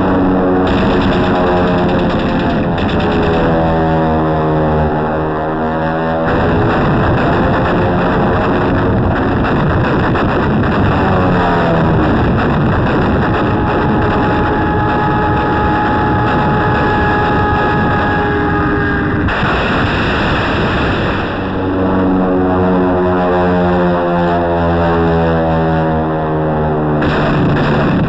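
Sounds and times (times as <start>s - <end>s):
aircraft engine droning: 0.0s - 28.0s
anti-aircraft gun barrage: 0.0s - 28.0s.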